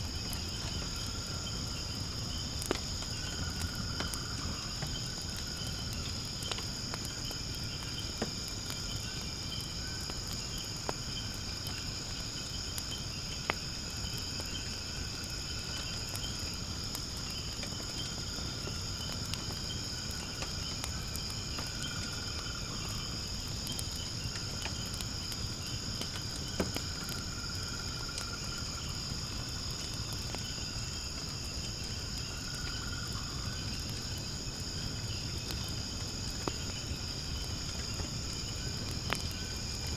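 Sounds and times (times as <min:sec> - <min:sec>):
fire crackling and popping: 0:00.0 - 0:39.9
insects trilling: 0:00.0 - 0:39.9
wood fire rumbling: 0:00.0 - 0:39.9.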